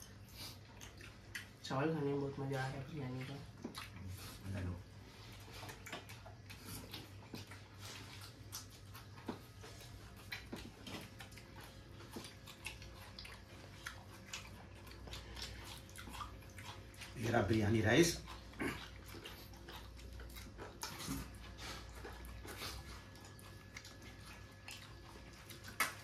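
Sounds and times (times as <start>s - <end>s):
people chewing: 0.0s - 26.0s.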